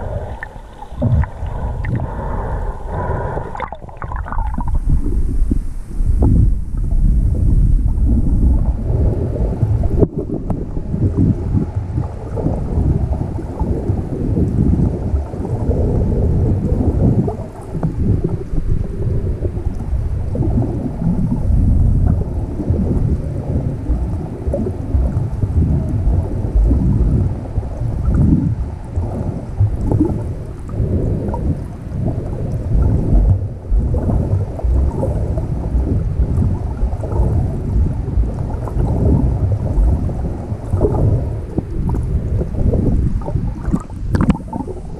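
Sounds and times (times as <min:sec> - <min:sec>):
muffled water sloshing: 0:00.0 - 0:44.9.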